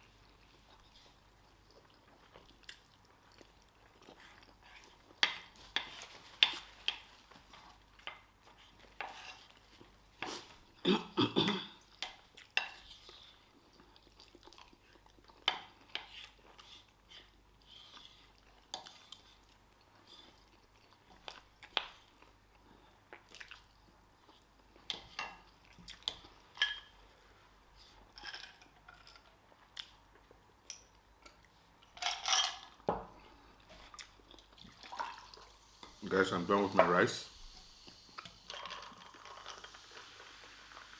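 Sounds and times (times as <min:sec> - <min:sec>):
chewing: 0:00.1 - 0:10.7, 0:11.8 - 0:27.2, 0:27.8 - 0:31.7, 0:32.7 - 0:36.0.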